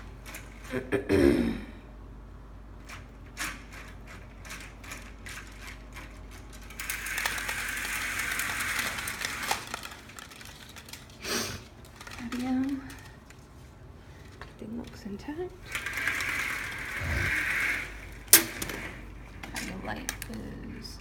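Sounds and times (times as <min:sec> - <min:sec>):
vertical blinds clacking and rattling: 0:00.0 - 0:00.8, 0:02.8 - 0:21.0.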